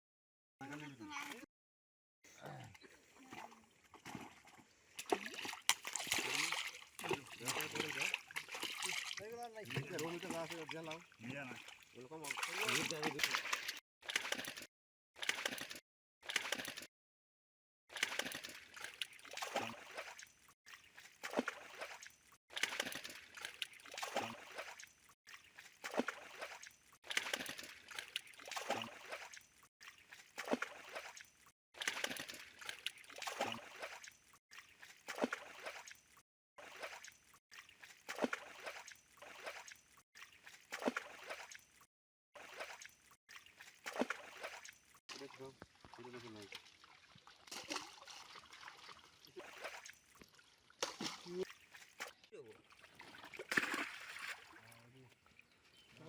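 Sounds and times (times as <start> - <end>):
water splashing and sloshing: 2.5 - 16.9, 17.9 - 56.0.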